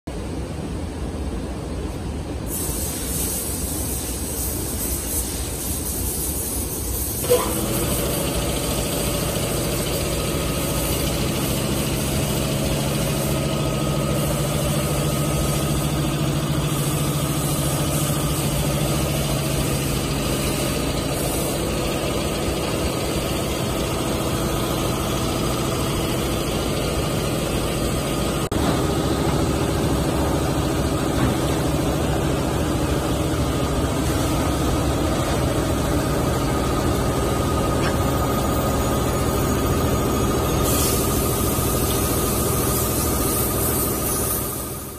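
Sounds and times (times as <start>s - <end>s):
workshop machinery drone: 0.1s - 44.9s.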